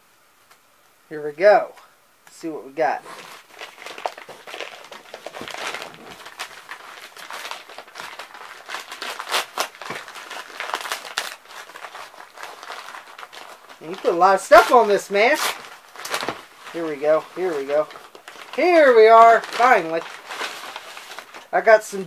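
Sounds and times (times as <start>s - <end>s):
envelope crinkling and tearing: 3.0s - 21.9s.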